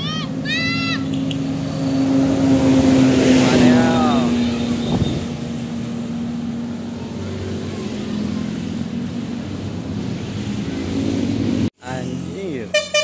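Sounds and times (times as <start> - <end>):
motorcycles passing: 0.0 - 13.0
passing car: 0.0 - 13.0.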